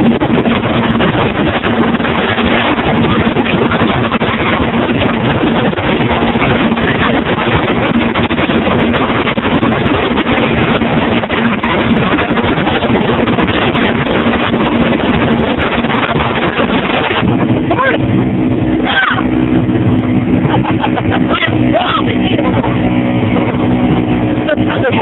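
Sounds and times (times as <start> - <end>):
outboard engine tone: 0.0 - 25.0
rushing water: 0.0 - 25.0
rushing wind: 0.0 - 25.0.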